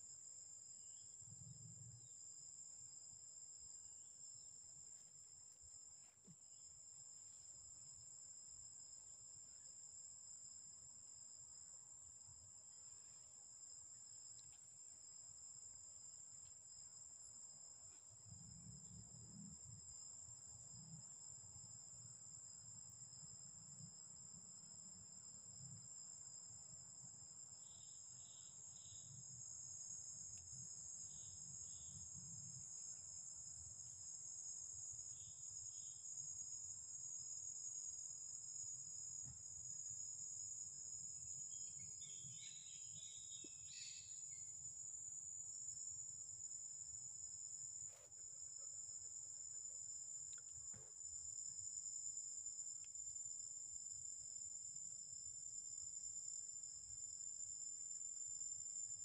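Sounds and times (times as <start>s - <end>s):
insects chirping: 0.0s - 59.0s
insects droning: 0.0s - 59.0s.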